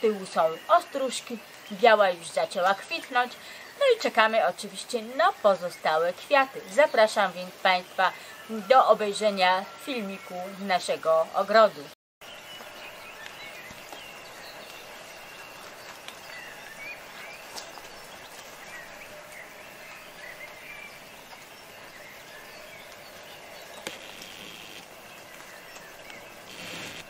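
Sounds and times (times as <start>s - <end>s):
light rain hissing: 0.0s - 27.0s.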